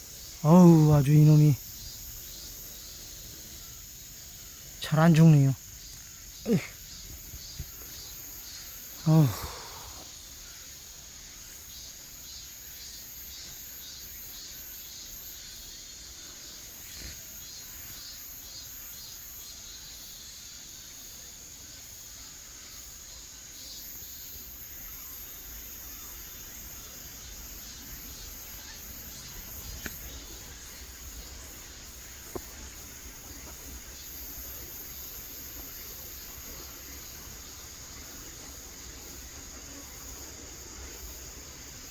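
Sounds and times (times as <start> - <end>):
insects pulsing chirps: 0.0 - 41.9
insects trilling: 0.0 - 41.9.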